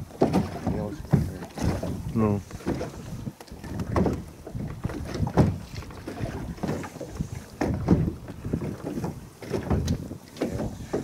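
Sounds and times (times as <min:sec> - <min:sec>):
water slapping against boat hull: 0:00.0 - 0:11.0
wind buffeting microphone: 0:00.0 - 0:11.0.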